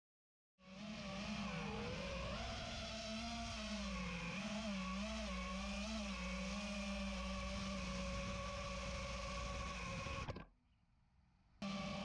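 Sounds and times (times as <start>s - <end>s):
drone motors whining: 0.6s - 10.5s, 11.6s - 12.0s.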